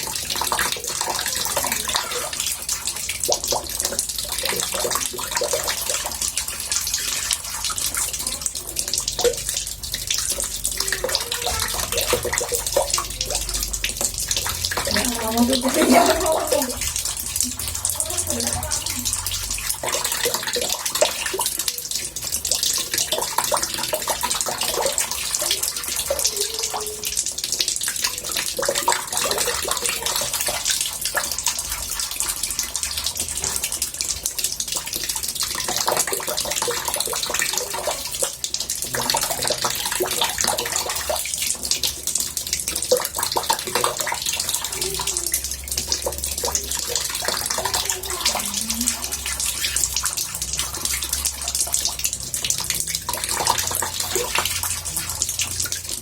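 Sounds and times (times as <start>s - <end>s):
tap water running into bathtub: 0.0s - 56.0s.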